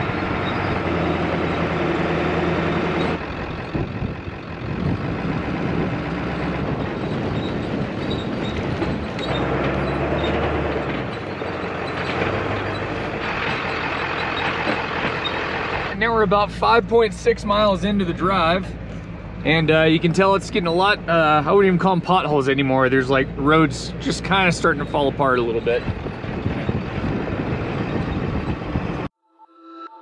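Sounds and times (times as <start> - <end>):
diesel engine running: 0.0 - 29.1
tyres on gravel road: 0.0 - 29.1.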